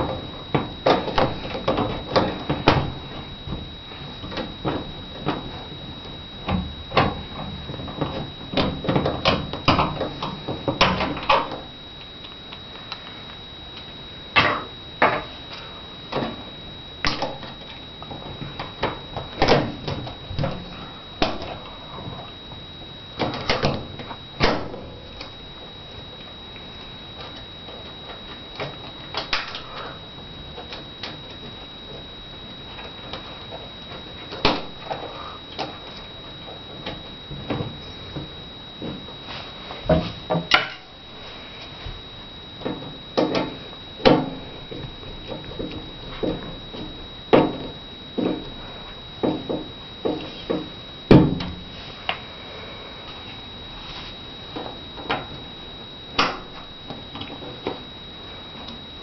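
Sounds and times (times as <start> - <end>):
faint high-pitched whine: 0.0 - 59.0.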